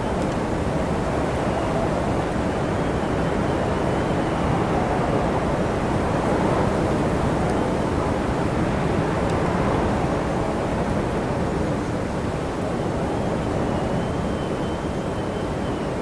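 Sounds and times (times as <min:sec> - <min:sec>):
strong wind blowing: 0:00.0 - 0:16.0.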